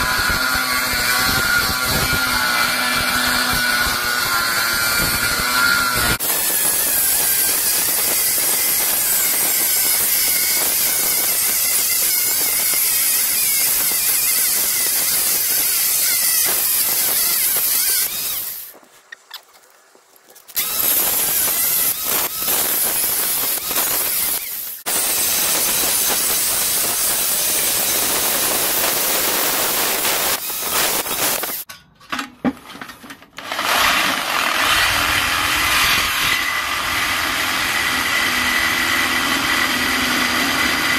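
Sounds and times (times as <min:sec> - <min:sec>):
electric jigsaw sawing: 0:00.0 - 0:18.7, 0:20.6 - 0:31.7, 0:33.4 - 0:40.9
angle grinder cutting metal: 0:00.0 - 0:18.8, 0:20.6 - 0:31.7, 0:33.4 - 0:40.9.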